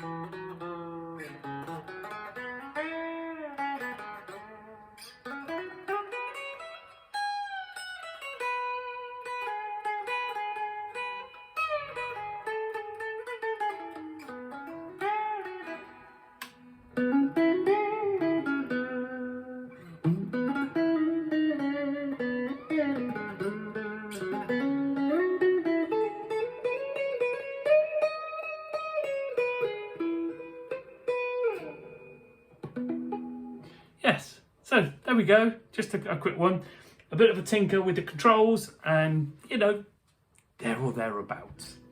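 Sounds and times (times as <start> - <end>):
electric guitar melody with bends: 0.0 - 34.0.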